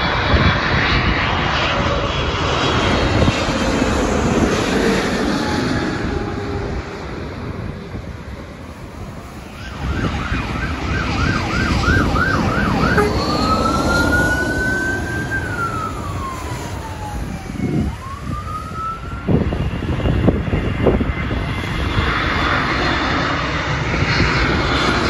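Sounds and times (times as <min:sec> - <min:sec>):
fire engine siren: 0:00.0 - 0:24.9
truck engine and road noise: 0:00.0 - 0:25.0.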